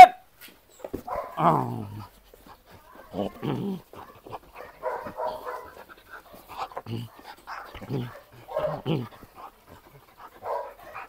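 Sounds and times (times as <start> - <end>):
dog vocalizing: 1.0 - 11.0.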